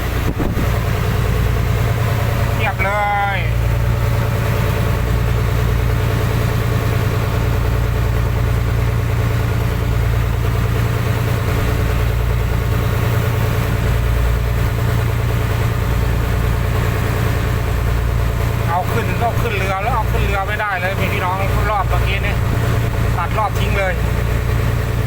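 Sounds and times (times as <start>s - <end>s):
boat engine humming: 0.0s - 25.0s.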